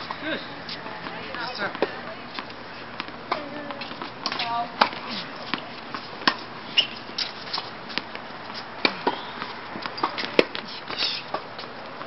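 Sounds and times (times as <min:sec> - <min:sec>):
racket hitting tennis ball: 0:01.0 - 0:11.6.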